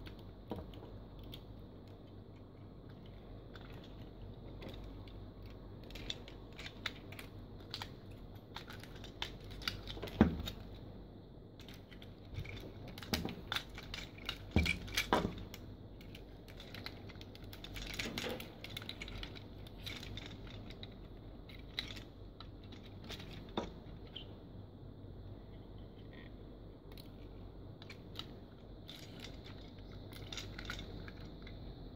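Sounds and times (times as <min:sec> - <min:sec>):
plastic toy parts clicking: 0:00.0 - 0:10.8, 0:11.6 - 0:24.2, 0:27.8 - 0:31.7.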